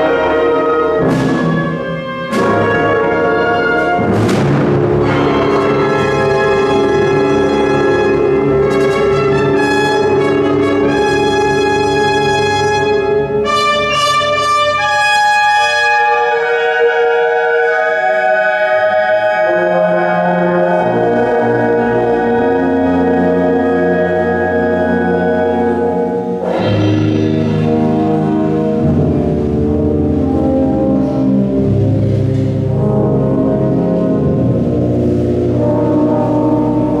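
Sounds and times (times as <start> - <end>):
low brass chord: 0.0 - 37.0
wind band playing a march: 0.0 - 37.0.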